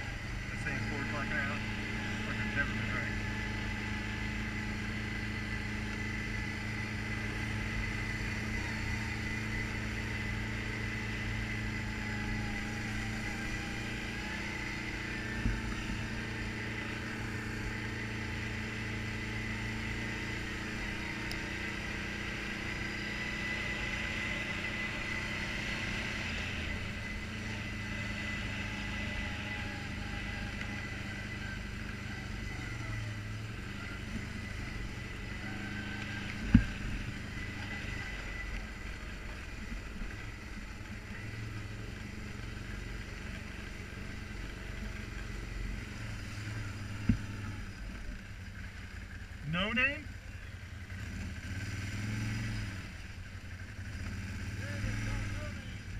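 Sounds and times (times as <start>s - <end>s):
quad bike engine running: 0.0s - 55.9s.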